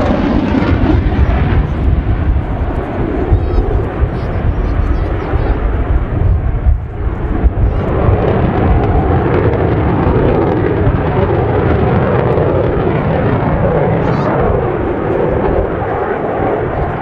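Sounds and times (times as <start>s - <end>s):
jet engine noise overhead: 0.0s - 17.0s.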